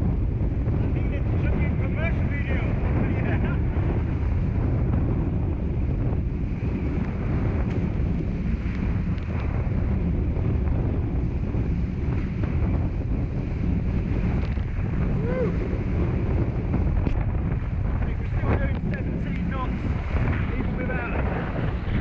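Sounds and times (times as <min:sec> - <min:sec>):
water rushing past hulls: 0:00.0 - 0:22.0
wind buffeting microphone: 0:00.0 - 0:22.0.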